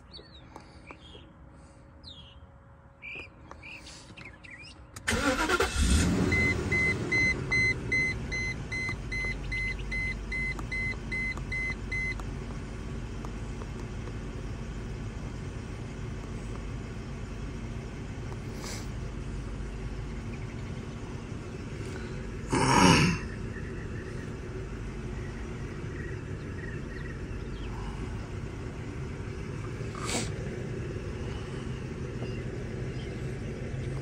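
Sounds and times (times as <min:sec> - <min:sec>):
car engine starting and idling: 0:04.6 - 0:34.0.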